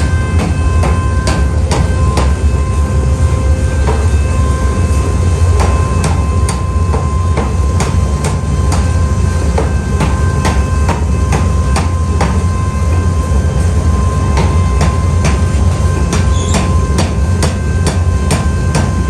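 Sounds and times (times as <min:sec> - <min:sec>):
hammer blows on metal: 0:00.0 - 0:02.9, 0:03.8 - 0:13.2, 0:14.0 - 0:19.0
workshop machinery hum: 0:00.0 - 0:19.0.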